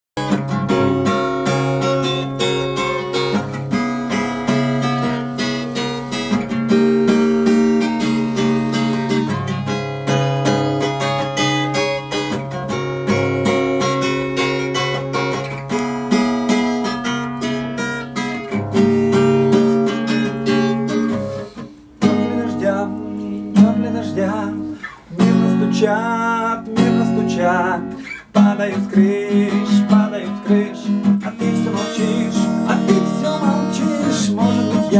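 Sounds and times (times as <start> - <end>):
acoustic guitar strumming: 0.2 - 34.9.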